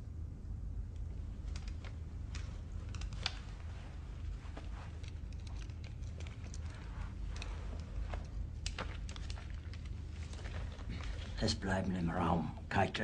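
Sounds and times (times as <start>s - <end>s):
low steady hum: 0.0s - 13.0s
faint small clicks and rustles: 0.8s - 12.6s.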